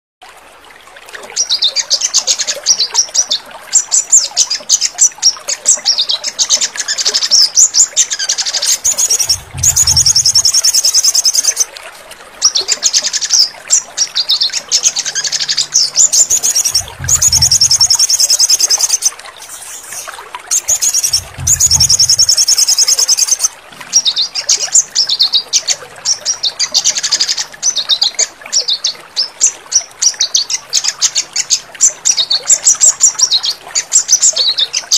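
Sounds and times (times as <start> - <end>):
songbird chirping and trilling: 1.4 - 11.7, 12.4 - 34.9.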